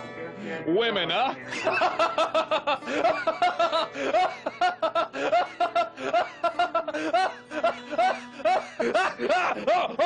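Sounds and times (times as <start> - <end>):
person laughing: 1.5 - 10.0.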